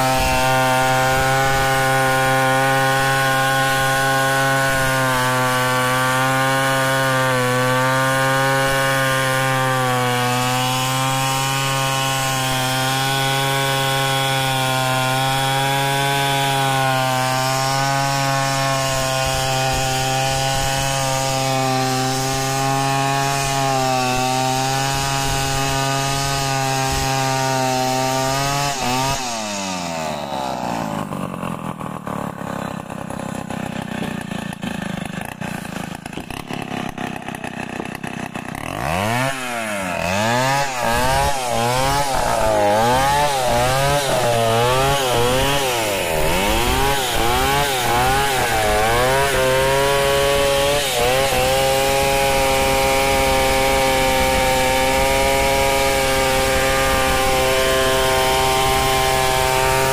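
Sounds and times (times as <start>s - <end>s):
chainsaw cutting a log: 0.0s - 59.9s.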